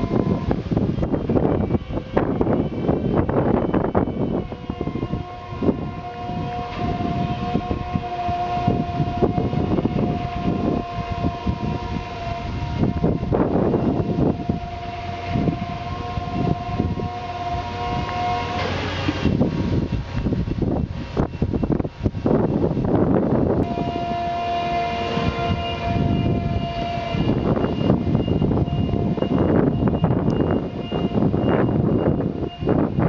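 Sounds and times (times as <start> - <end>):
low rumbling: 0.0 - 33.0
transport trailer high whine: 0.0 - 33.0.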